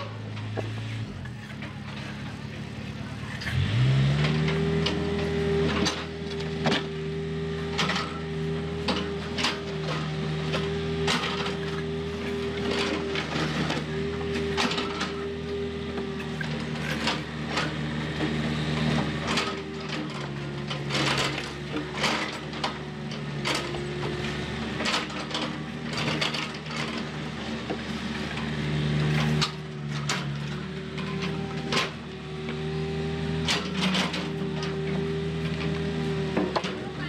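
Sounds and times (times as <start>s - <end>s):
excavator diesel engine: 0.0s - 37.0s.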